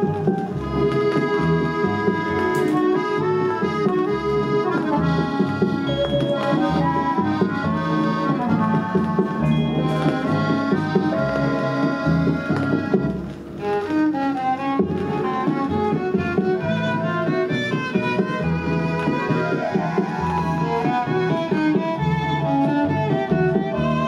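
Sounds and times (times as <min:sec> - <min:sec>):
music from a vinyl record: 0:00.0 - 0:24.0.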